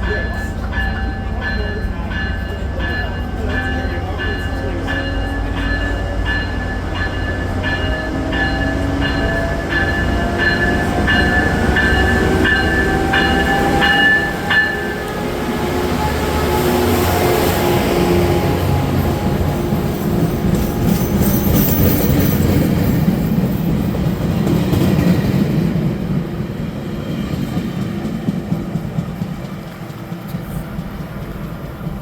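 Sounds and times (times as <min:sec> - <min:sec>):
train rolling along tracks: 0:00.0 - 0:32.0.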